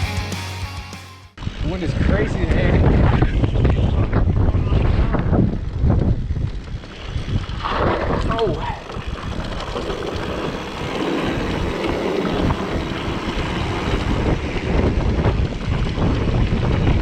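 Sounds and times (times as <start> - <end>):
wind buffeting microphone: 1.4 - 17.0.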